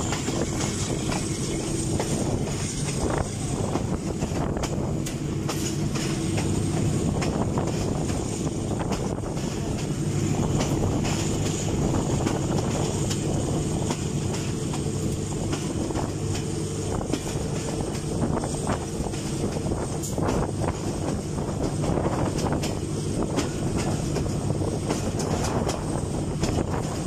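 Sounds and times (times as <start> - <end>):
moving passenger train rumbling: 0.0 - 27.0
wheels clicking on rails: 0.0 - 27.0.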